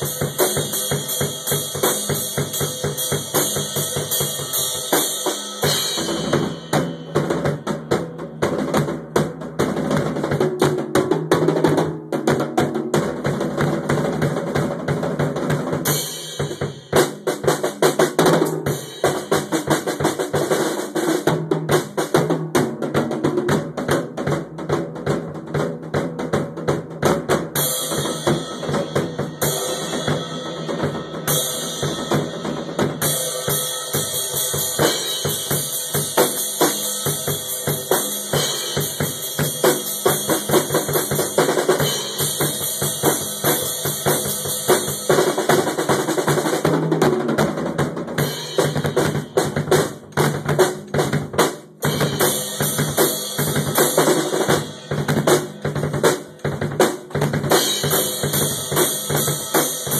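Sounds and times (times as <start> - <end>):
fast drumming on drum kit: 0.0 - 59.9
other instruments: 0.0 - 59.9.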